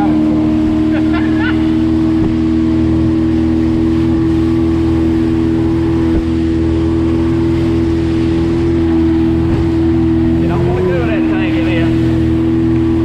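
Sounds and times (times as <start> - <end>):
motorboat engine cruising: 0.0 - 13.0
water and wind rushing: 0.0 - 13.0.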